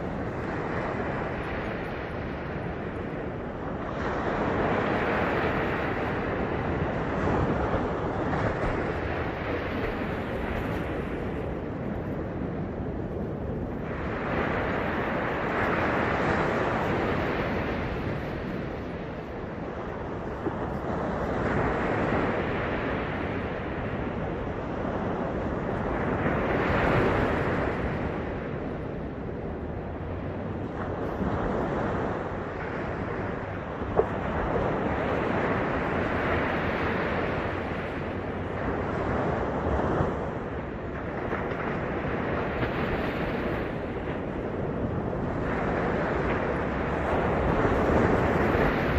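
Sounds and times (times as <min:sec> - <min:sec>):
low rumble of the sea: 0:00.0 - 0:48.9
wave breaking and washing in: 0:00.0 - 0:48.9.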